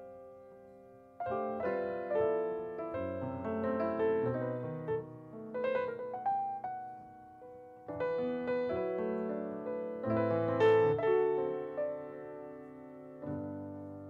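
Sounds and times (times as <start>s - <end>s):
grand piano jazz chords: 0.0s - 14.0s.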